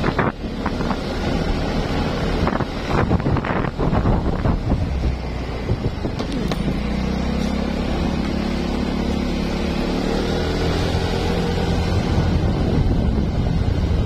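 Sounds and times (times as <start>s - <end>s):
road and wind rumble: 0.0s - 14.0s
vehicle engine accelerating: 0.0s - 14.0s.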